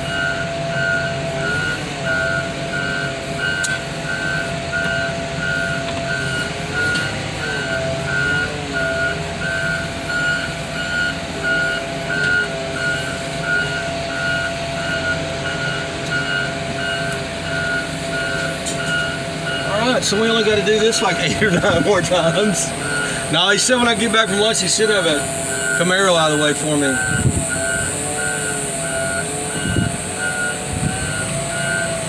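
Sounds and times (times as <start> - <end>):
backup alarm beeping: 0.0 - 32.0
loader engine running: 0.0 - 32.0.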